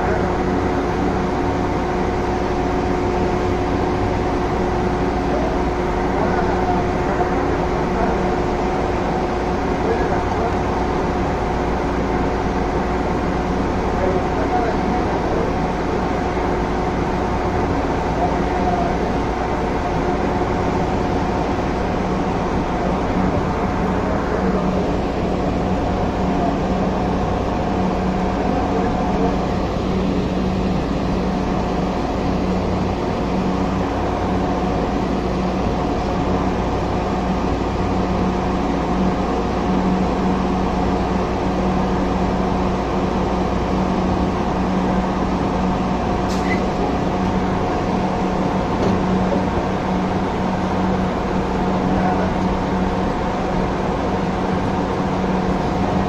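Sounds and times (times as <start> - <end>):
steady tonal hum: 0.0 - 56.0
train rumbling: 0.0 - 56.0.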